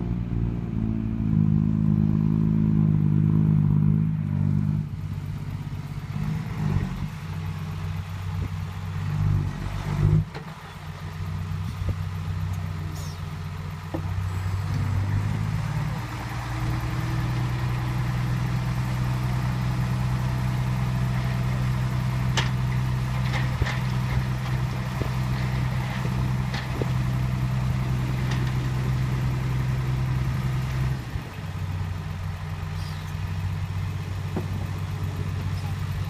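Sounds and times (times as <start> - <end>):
diesel engine running at low revs: 0.0 - 36.0.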